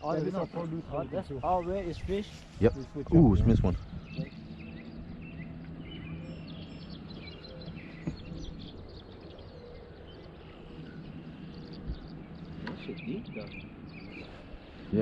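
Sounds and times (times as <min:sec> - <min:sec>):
low background hum: 0:00.0 - 0:15.0
small birds chirping: 0:00.0 - 0:15.0.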